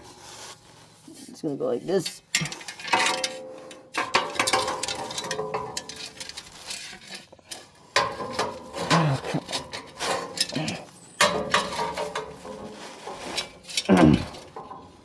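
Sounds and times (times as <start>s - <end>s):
metal parts scraping and clinking: 2.0s - 15.0s.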